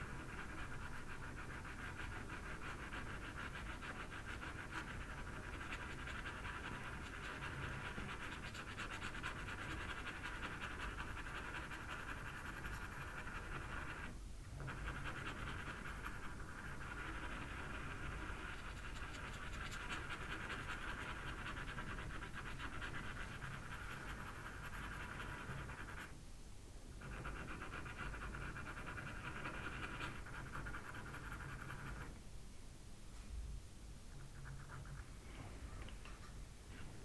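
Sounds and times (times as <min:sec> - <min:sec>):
pencil scratching on paper: 0:00.0 - 0:26.2, 0:27.0 - 0:32.2, 0:34.1 - 0:35.1.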